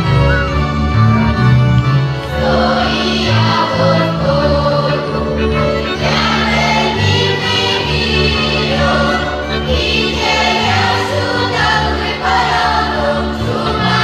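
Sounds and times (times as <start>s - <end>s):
folk string band playing: 0.0s - 14.0s
group of voices singing: 2.3s - 14.0s.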